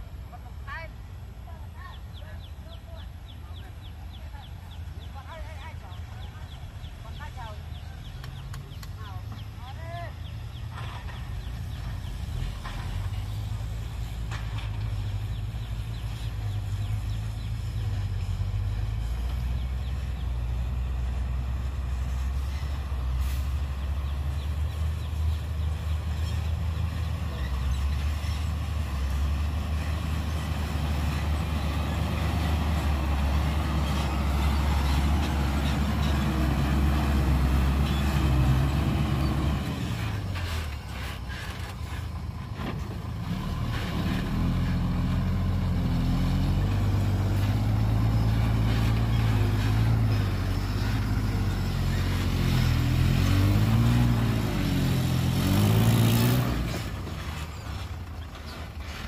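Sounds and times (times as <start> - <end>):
heavy diesel machinery revving: 10.3 - 59.0.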